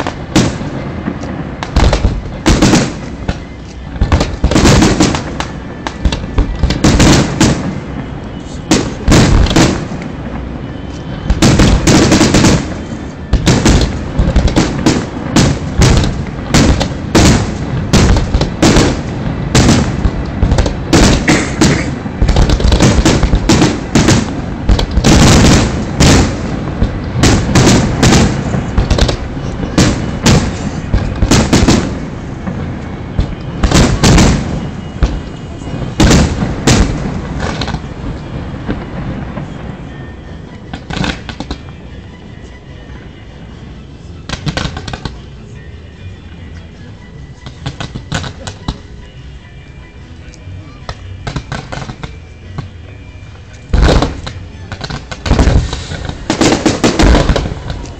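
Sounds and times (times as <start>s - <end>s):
fireworks bursting: 0.0s - 42.2s, 43.4s - 45.7s, 47.4s - 48.9s, 50.9s - 57.9s.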